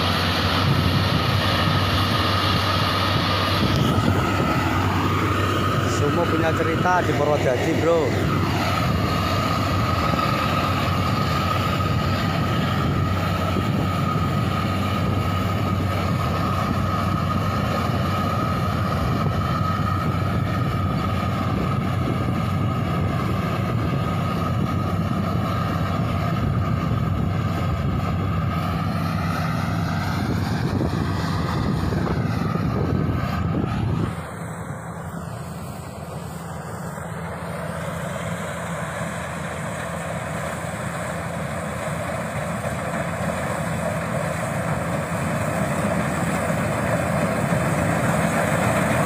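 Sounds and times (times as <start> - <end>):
combine harvester engine hum: 0.0 - 49.0
steady high whine: 0.0 - 49.0.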